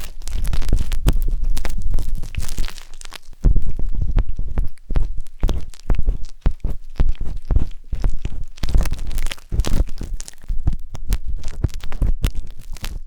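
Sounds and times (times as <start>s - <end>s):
deep rumbling thuds: 0.0s - 12.3s
skewers scratching microphone: 0.0s - 13.0s.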